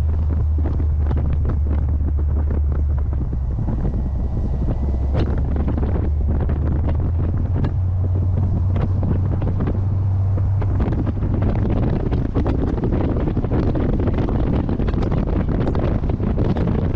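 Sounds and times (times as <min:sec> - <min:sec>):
car engine droning: 0:00.0 - 0:16.9
wind buffeting on microphone: 0:00.0 - 0:16.9.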